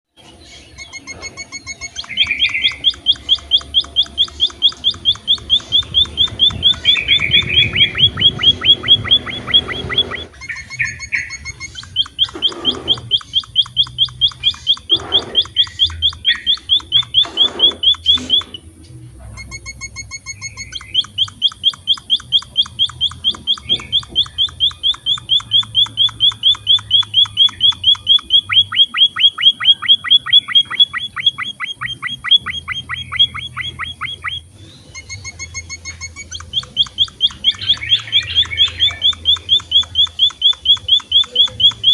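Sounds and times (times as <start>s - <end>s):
finch singing: 0.2s - 18.7s, 19.5s - 41.9s.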